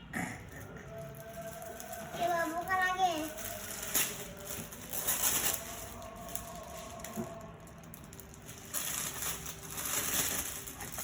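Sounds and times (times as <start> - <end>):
gift wrapping rustling: 0.6 - 11.0.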